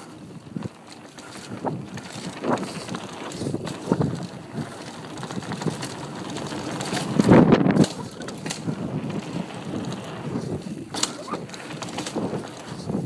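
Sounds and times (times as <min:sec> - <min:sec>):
bicycle rattling over bumps: 0:00.0 - 0:13.0
bicycle tyres on dirt: 0:00.0 - 0:13.0
wind on microphone: 0:00.0 - 0:13.0.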